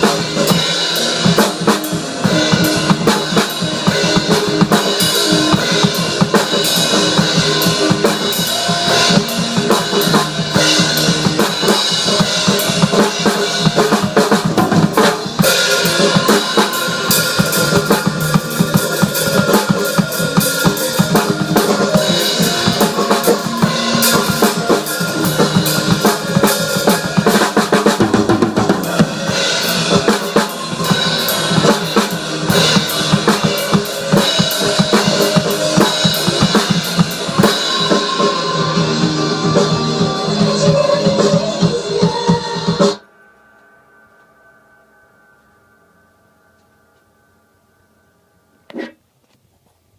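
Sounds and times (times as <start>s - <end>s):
drum kit playing: 0.0s - 43.0s.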